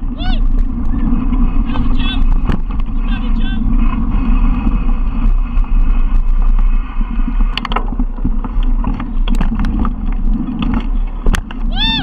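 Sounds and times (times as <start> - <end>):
bike clicking and rattling: 0.0 - 12.0
bike tyres rumbling on gravel: 0.0 - 12.0
wind on microphone: 0.0 - 12.0.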